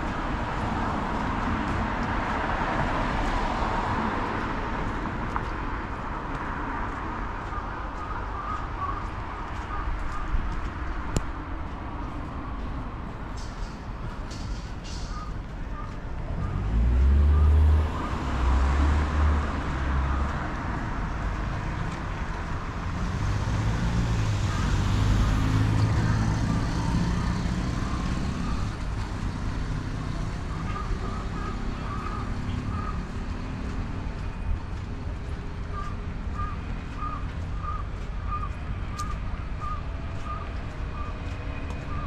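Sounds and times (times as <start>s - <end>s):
heavy low traffic rumble: 0.0s - 42.0s
passing vehicle engine and tyres: 0.0s - 42.0s.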